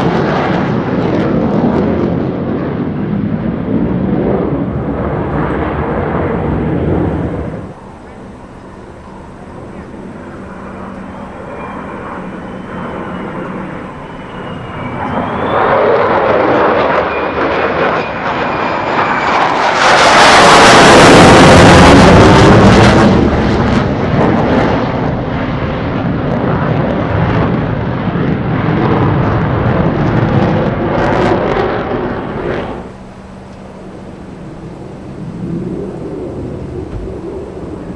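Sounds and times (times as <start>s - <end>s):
military jet passing: 0.0s - 37.9s.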